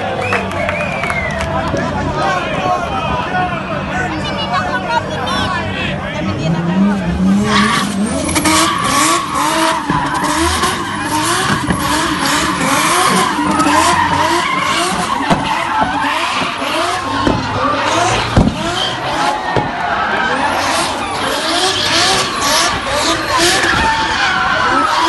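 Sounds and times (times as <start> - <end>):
car engine revving: 3.9 - 25.0.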